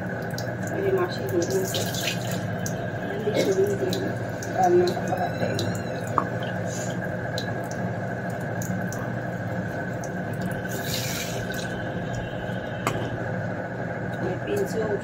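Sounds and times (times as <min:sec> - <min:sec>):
water running: 0:00.0 - 0:13.5.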